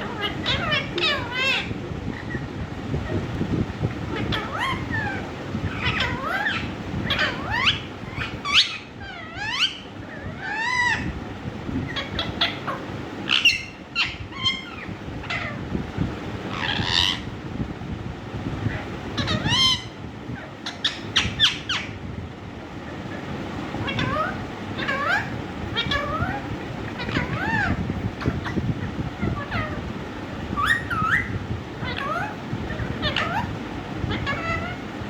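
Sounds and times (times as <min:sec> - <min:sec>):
parakeet calls and whistles: 0:00.0 - 0:03.2, 0:03.8 - 0:11.2, 0:11.8 - 0:15.8, 0:16.4 - 0:17.3, 0:18.6 - 0:22.0, 0:22.9 - 0:35.0.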